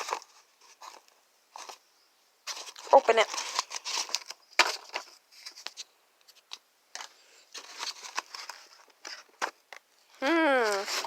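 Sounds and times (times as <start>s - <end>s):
packaging rustling and crinkling: 0.0s - 1.8s, 2.4s - 9.8s, 10.6s - 11.0s.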